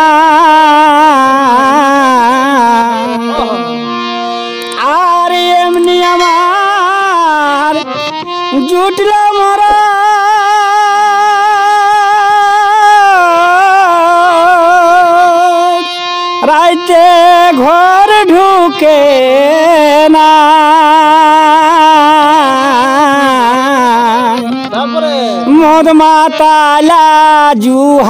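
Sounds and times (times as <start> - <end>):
harmonium: 0.0 - 28.0
person singing with vibrato: 0.0 - 28.0.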